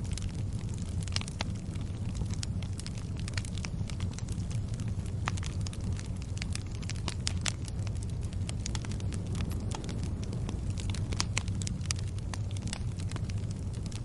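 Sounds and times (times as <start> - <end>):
fire low rumble: 0.0 - 14.0
firewood crackling and popping: 0.0 - 14.0.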